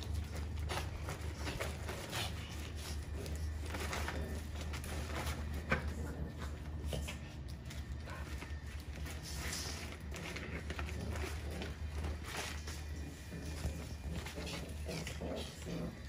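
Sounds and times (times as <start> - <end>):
puppies moving on concrete: 0.0 - 16.0
steady low hum: 0.0 - 16.0.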